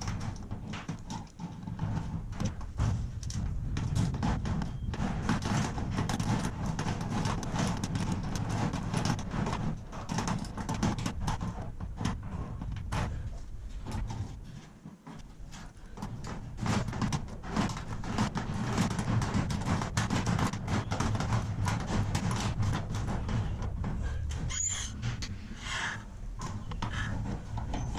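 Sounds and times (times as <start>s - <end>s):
metal parts knocking and rattling: 0.0s - 27.9s.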